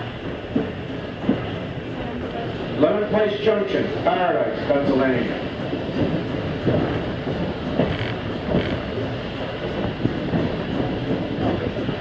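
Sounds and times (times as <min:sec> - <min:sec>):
train car rumbling on rails: 0:00.0 - 0:12.0
wheels clacking and knocking: 0:00.0 - 0:12.0.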